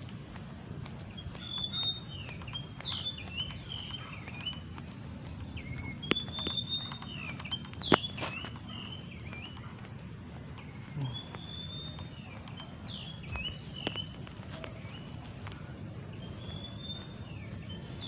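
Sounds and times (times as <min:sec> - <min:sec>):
sharp clicks: 0:00.0 - 0:14.8
birds chirping and whistling: 0:00.3 - 0:18.0.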